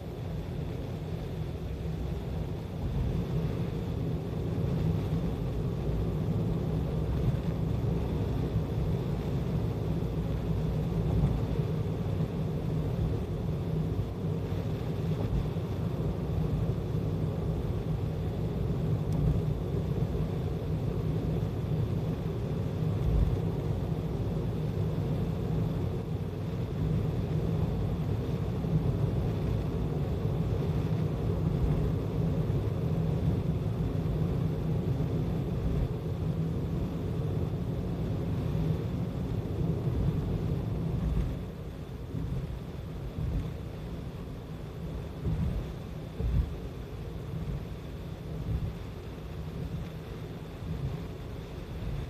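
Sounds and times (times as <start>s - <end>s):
car tyre and engine rumble: 0.0s - 52.0s.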